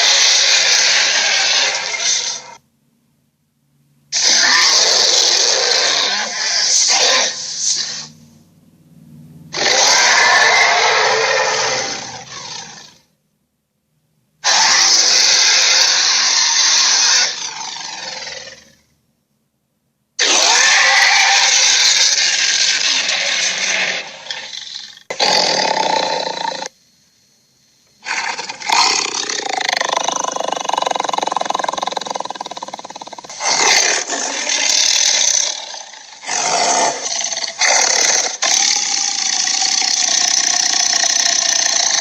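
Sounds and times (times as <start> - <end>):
dinosaur roars: 0.0 - 2.6, 4.2 - 8.4, 9.5 - 13.1, 14.4 - 18.9, 20.2 - 26.7, 28.0 - 42.0.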